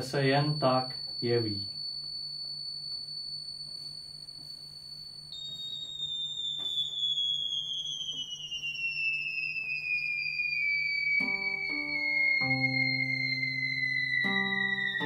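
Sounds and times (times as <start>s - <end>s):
theremin gliding tone: 0.0s - 15.0s.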